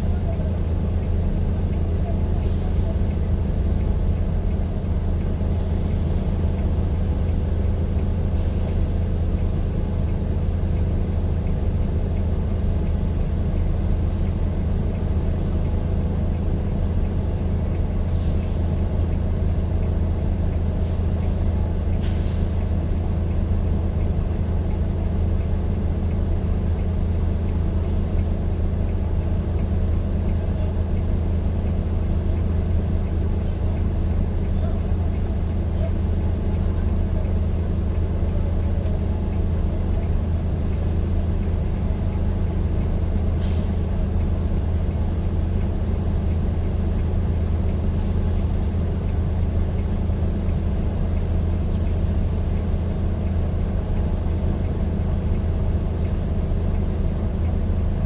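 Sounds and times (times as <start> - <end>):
vehicle engine drone: 0.0 - 58.0.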